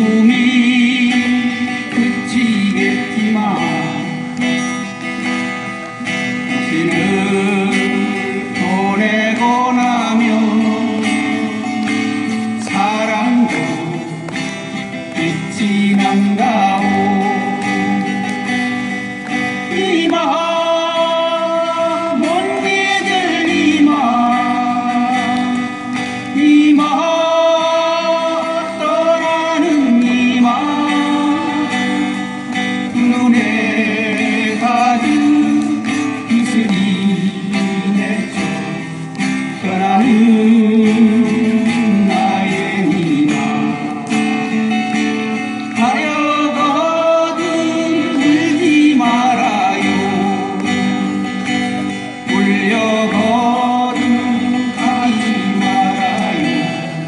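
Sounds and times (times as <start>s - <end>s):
acoustic guitars playing: 0.0s - 57.0s
person singing: 0.0s - 57.0s.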